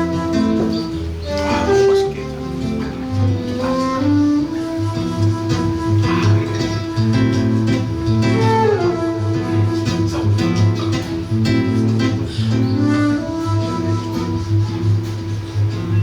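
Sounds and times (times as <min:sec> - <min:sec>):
acoustic guitar waltz: 0:00.0 - 0:16.0.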